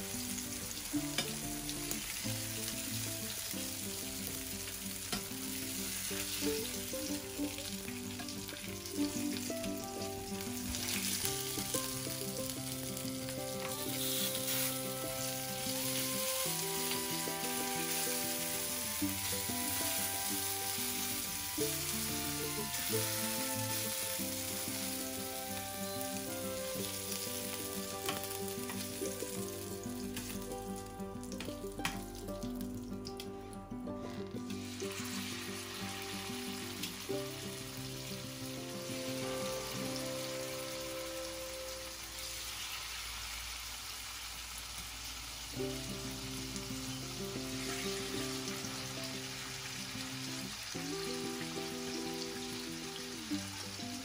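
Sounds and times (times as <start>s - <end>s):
fish sizzling in oil: 0.0s - 33.3s, 34.5s - 54.0s.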